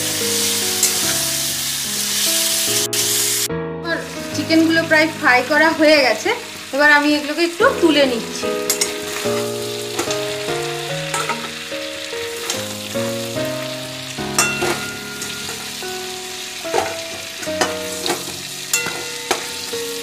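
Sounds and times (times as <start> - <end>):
instrumental tune: 0.0 - 6.8, 7.6 - 20.0
chicken sizzling in oil: 0.0 - 20.0.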